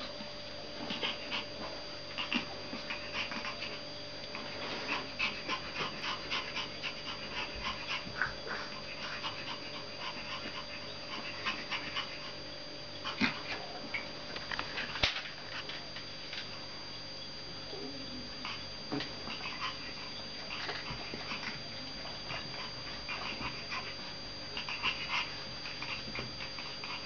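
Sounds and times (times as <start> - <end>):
dogs panting: 0.1 - 16.4, 18.4 - 27.0.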